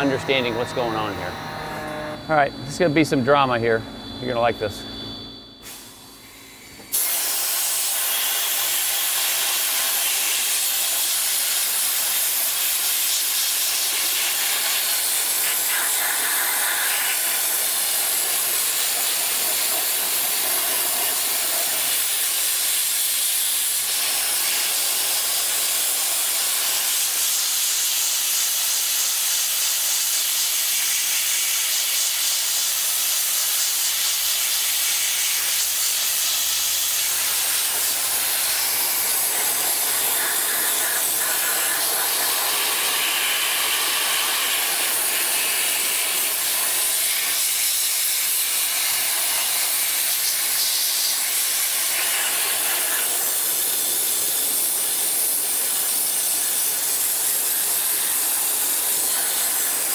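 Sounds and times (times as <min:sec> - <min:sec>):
dry ice blasting hiss: 0:00.0 - 0:03.6, 0:05.6 - 0:59.9.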